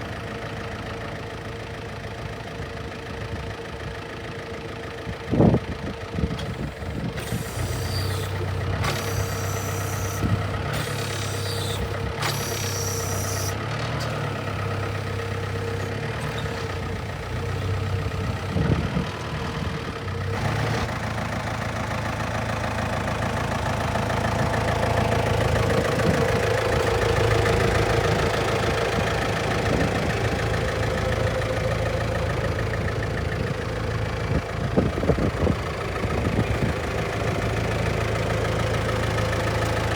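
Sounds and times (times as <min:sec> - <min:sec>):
forklift diesel engine running: 0:00.0 - 0:39.9.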